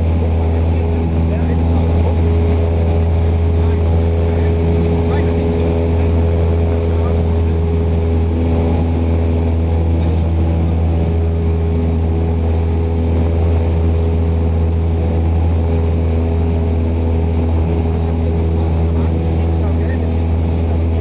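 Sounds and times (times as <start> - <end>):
light aircraft engine drone: 0.0 - 21.0.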